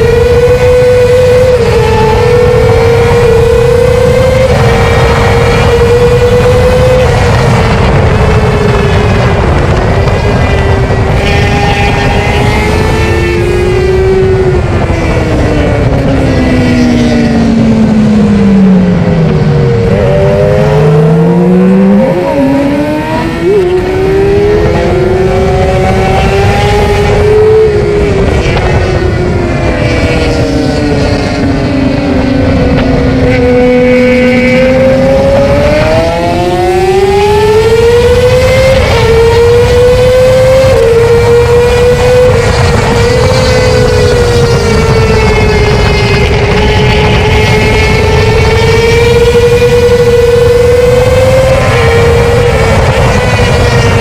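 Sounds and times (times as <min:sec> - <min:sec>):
engine throttle blips: 0:00.0 - 0:54.0
motorcycle engine revving: 0:00.0 - 0:54.0.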